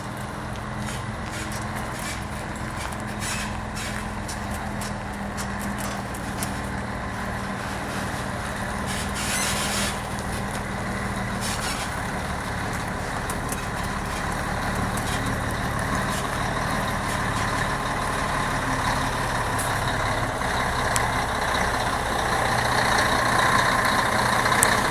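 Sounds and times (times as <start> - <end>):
truck diesel engine running: 0.0 - 24.9.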